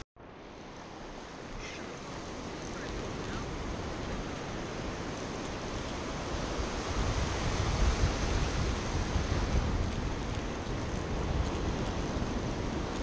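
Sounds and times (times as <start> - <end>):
ocean surf washing up beach: 0.2 - 13.0
wind rumble on microphone: 0.5 - 13.0.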